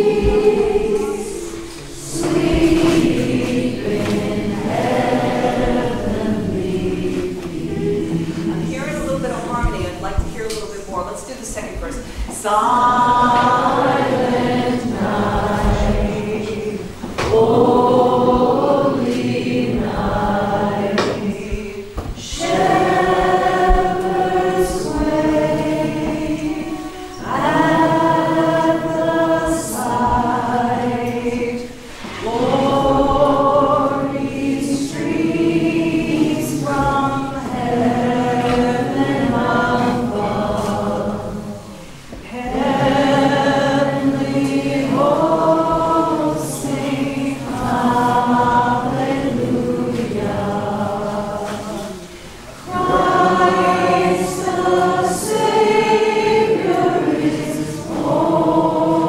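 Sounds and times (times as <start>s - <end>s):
group singing a carol: 0.0s - 59.0s.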